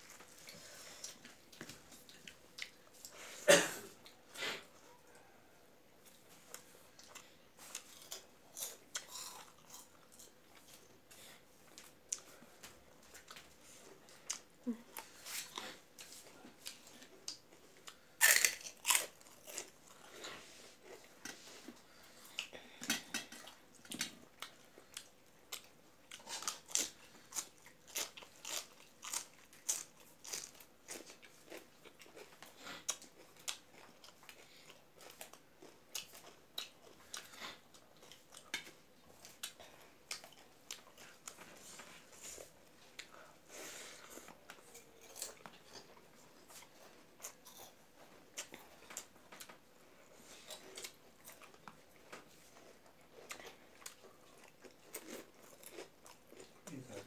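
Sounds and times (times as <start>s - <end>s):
chewing with mouth clicks: 6.0s - 43.3s, 44.0s - 56.8s.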